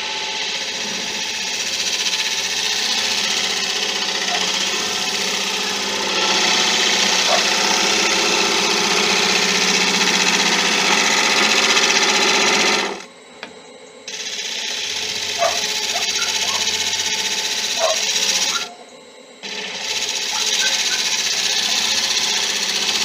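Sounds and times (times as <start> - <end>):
gouge cutting spinning wood: 0.0 - 13.5, 14.1 - 18.7, 19.4 - 23.0
wood lathe humming: 0.0 - 23.0.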